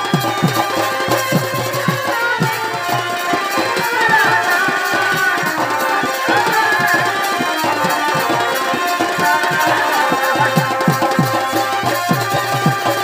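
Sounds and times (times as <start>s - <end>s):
drums beating: 0.0s - 13.0s.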